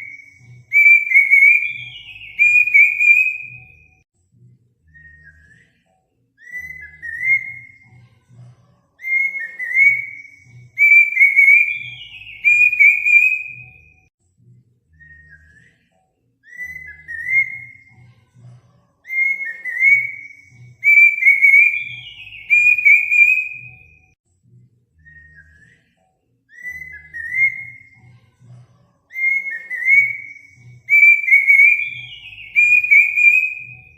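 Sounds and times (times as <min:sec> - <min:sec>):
cuckoo whistled song: 0:00.0 - 0:04.0, 0:04.8 - 0:08.1, 0:09.0 - 0:14.1, 0:14.9 - 0:18.2, 0:19.0 - 0:24.2, 0:25.0 - 0:28.2, 0:29.1 - 0:33.9.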